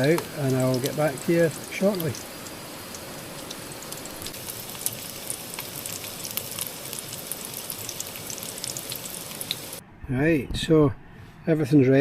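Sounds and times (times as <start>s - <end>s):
sausages sizzling in a pan: 0.0s - 9.8s.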